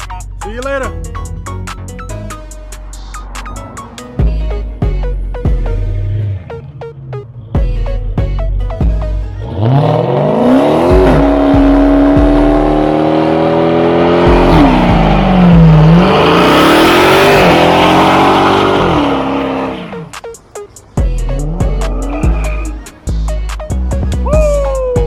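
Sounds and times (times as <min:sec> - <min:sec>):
car engine accelerating: 0:01.1 - 0:24.2.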